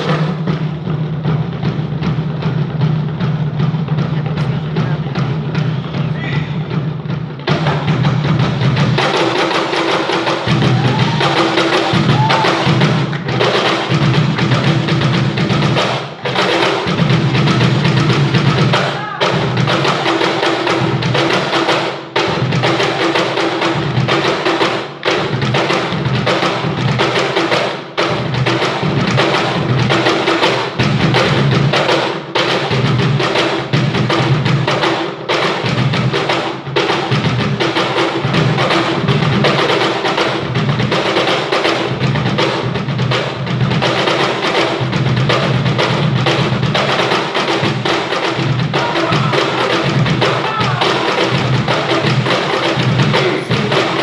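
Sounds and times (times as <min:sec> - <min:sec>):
cajon drum rhythm: 0:00.0 - 0:54.0.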